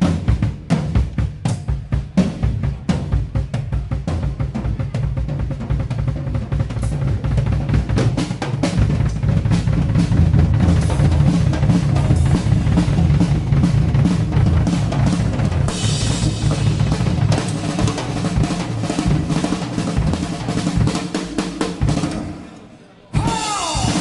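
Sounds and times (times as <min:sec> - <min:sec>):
rock drum kit played hard: 0:00.0 - 0:22.5, 0:23.2 - 0:24.0.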